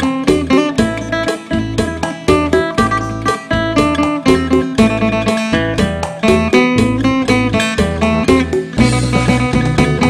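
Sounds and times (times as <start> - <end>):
plucked lute melody: 0.0 - 10.0.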